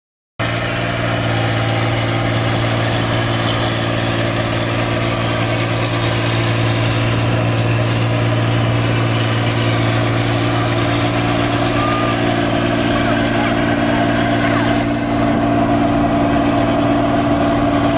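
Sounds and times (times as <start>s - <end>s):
combine harvester engine humming: 0.4s - 17.9s.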